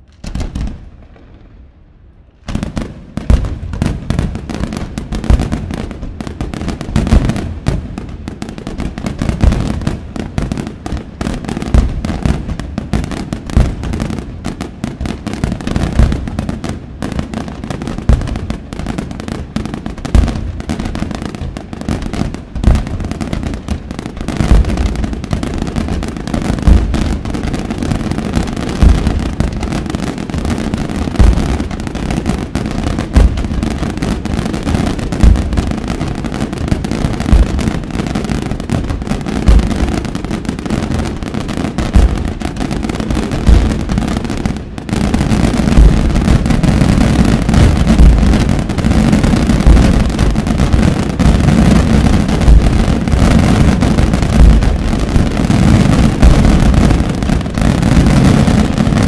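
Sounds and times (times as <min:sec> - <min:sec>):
fireworks bursting and booming: 0:00.0 - 0:59.0.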